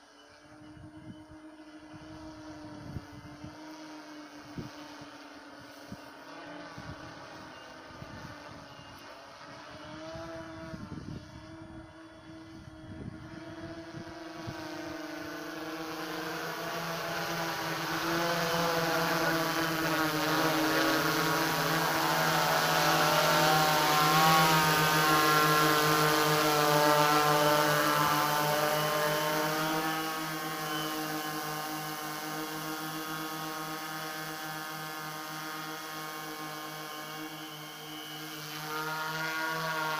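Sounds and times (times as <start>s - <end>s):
drone propeller buzz: 0.0s - 39.9s.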